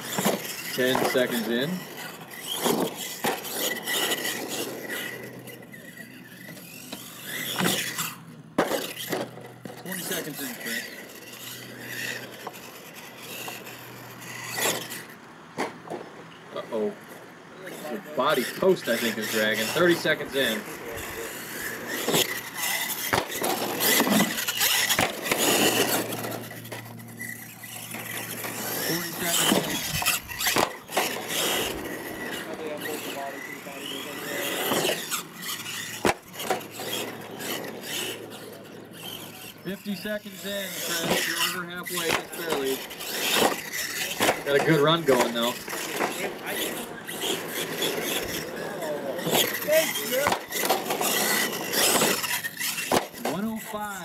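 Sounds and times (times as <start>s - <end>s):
toy truck motor whining: 0.0s - 54.0s
tyres scraping on dirt: 0.0s - 54.0s.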